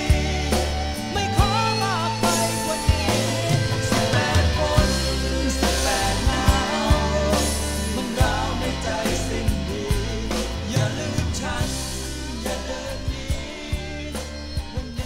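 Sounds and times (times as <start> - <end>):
bass line: 0.0 - 15.0
drums hitting: 0.0 - 15.0
rock song from vinyl record: 0.0 - 15.0.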